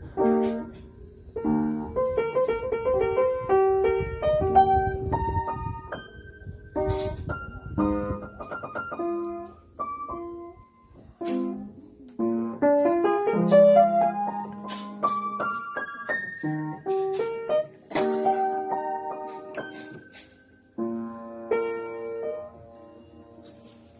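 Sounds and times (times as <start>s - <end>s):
piano or keyboard music: 0.0s - 23.9s.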